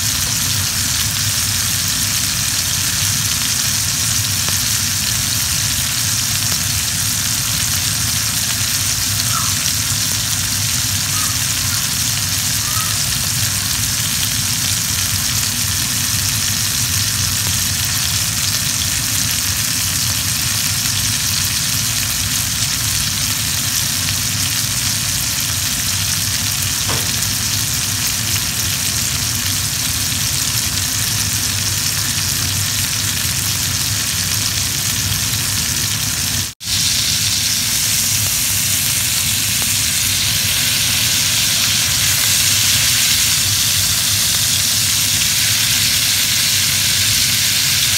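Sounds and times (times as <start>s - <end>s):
steaks sizzling in a skillet: 0.0s - 47.9s.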